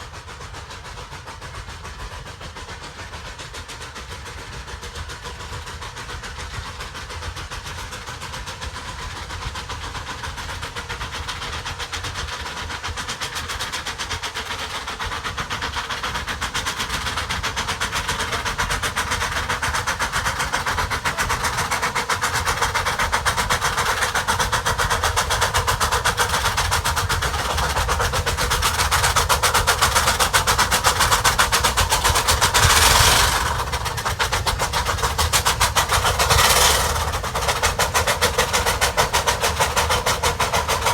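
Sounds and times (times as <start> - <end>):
loud steam hiss: 0.0 - 40.9
steam locomotive exhaust beats: 0.0 - 40.9.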